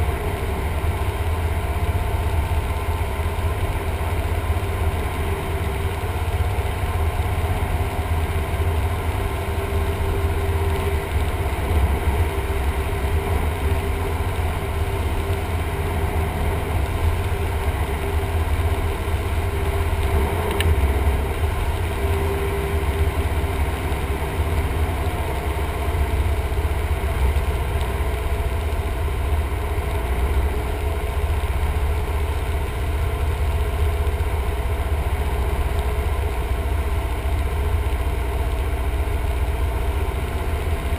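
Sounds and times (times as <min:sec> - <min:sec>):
small aircraft engine and propeller: 0:00.0 - 0:40.9.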